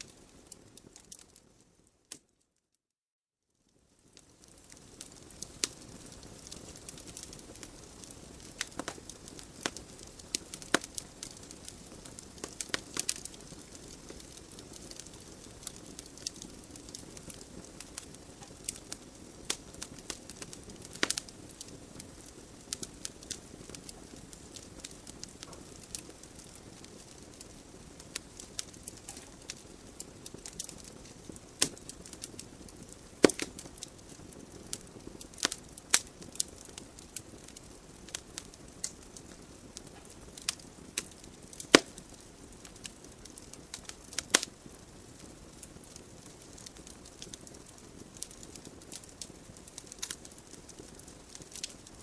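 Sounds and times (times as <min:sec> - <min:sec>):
logs crackling and popping: 0:00.0 - 0:02.3, 0:03.8 - 0:52.0
hiss of flames: 0:04.0 - 0:52.0.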